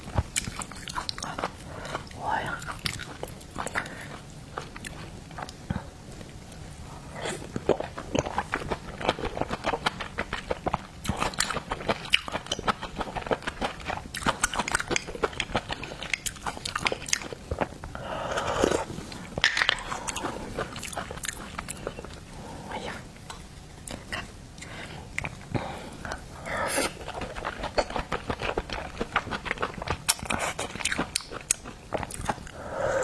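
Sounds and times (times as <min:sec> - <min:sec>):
crunchy chewing of seafood: 0:00.0 - 0:06.0, 0:07.2 - 0:22.6, 0:23.4 - 0:33.0.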